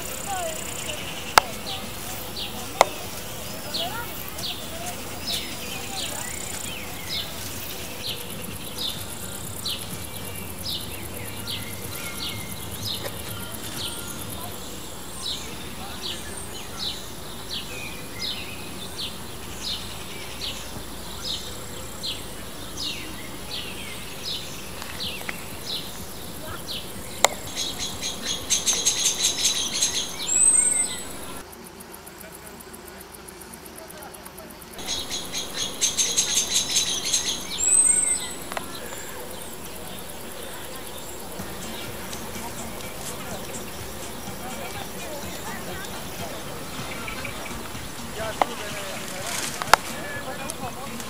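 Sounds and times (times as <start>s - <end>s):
small bird singing: 0.0s - 31.5s, 34.7s - 51.0s
insects trilling: 0.0s - 51.0s.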